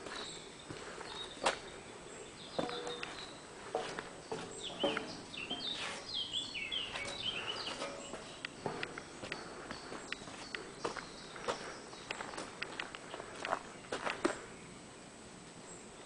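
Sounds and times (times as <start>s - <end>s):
footsteps on gravel: 0.0s - 1.8s, 2.4s - 14.4s
birds chirping: 0.0s - 16.0s.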